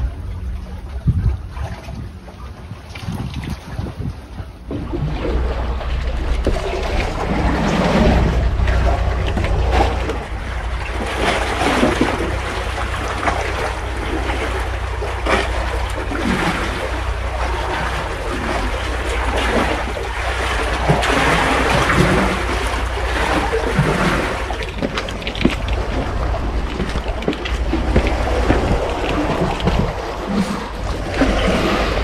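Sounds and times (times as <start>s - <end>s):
sea water sloshing among concrete: 0.0s - 32.0s
wind buffeting microphone: 0.0s - 32.0s.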